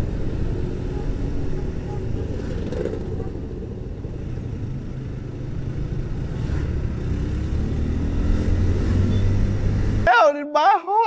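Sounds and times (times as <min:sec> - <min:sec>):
motorcycle engine accelerating: 0:00.0 - 0:10.1
wind and road noise: 0:00.0 - 0:10.3.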